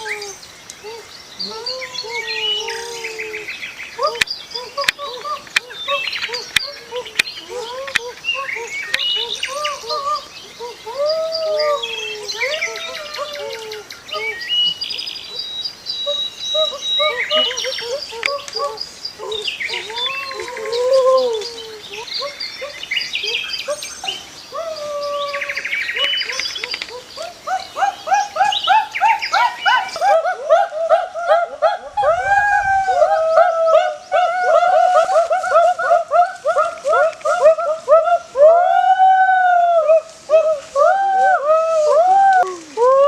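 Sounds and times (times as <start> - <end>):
birds calling and chirping: 0.0 - 42.4.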